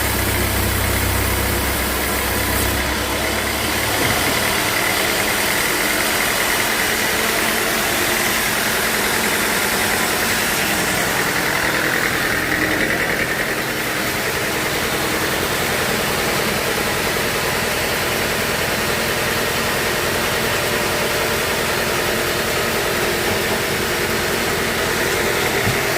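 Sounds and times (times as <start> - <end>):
sawmill machinery droning: 0.0 - 25.9.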